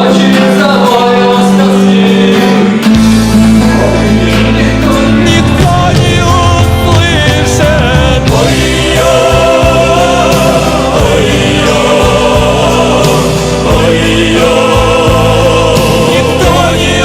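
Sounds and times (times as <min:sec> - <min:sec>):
song with voices singing: 0:00.0 - 0:17.0.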